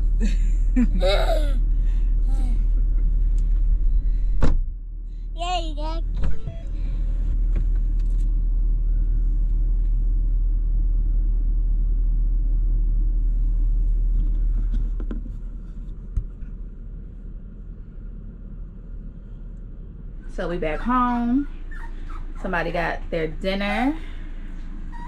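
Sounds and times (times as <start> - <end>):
low rumble inside car cabin: 0.0 - 25.0.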